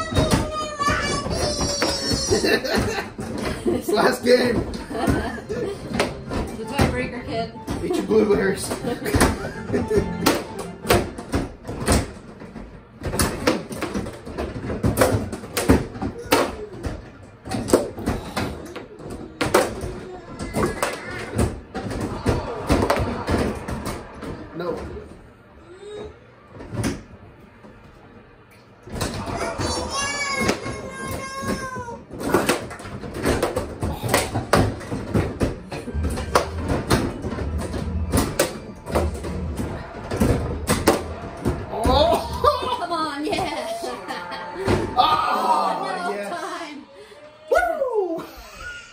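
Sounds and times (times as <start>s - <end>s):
plastic players and puck clacking: 0.0s - 25.3s, 28.8s - 43.5s.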